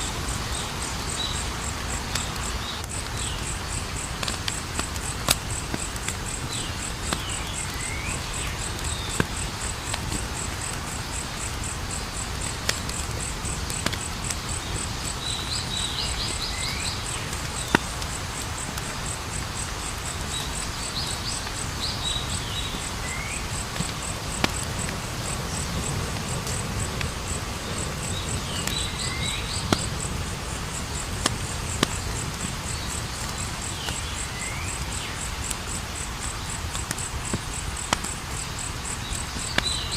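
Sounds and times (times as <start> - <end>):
campfire crackling and popping: 0.0 - 39.9
high cricket trill: 0.0 - 39.9.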